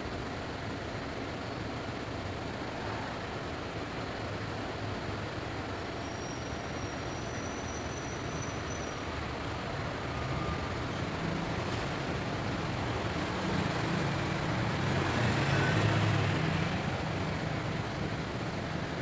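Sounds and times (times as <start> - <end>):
road traffic hiss: 0.0 - 19.0
vehicle engine rumble: 0.0 - 19.0.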